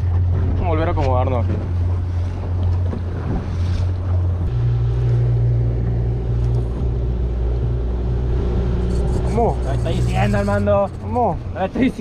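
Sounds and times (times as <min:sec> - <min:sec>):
boat engine revving: 0:00.0 - 0:12.0.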